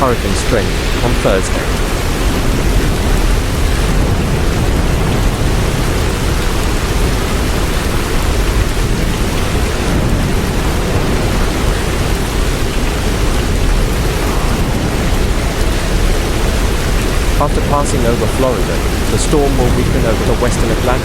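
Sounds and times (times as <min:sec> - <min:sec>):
deep rumble: 0:00.0 - 0:21.0
heavy rain: 0:00.0 - 0:21.0
strong wind: 0:00.0 - 0:21.0.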